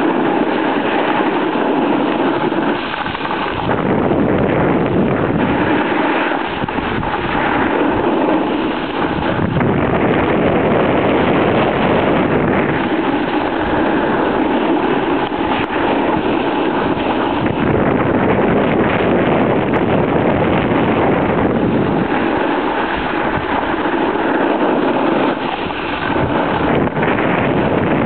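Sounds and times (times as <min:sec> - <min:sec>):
snowboard sliding over snow: 0:00.0 - 0:28.0
wind buffeting microphone: 0:00.0 - 0:28.0.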